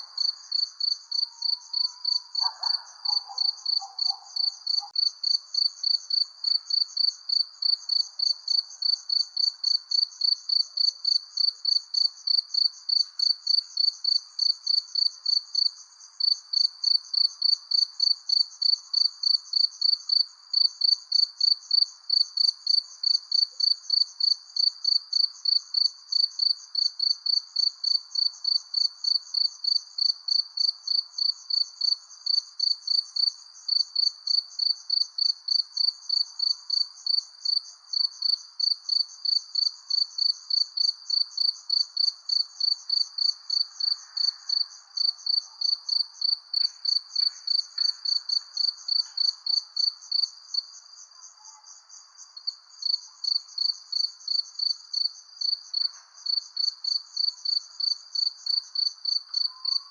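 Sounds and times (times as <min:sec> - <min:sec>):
cricket chirping: 0:00.0 - 0:59.9
faint night ambience hiss: 0:00.0 - 0:59.9.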